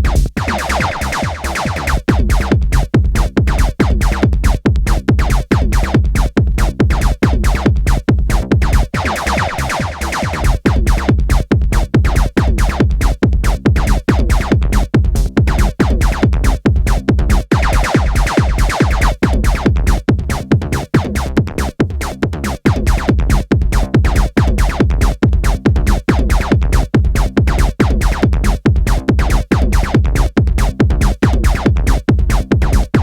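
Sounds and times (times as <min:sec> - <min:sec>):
electronic music with drum machine: 0:00.0 - 0:33.0.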